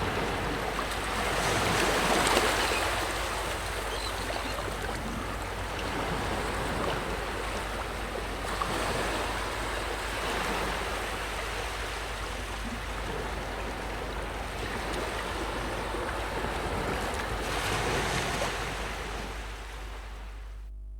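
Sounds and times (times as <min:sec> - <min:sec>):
ocean waves washing on shore: 0:00.0 - 0:20.4.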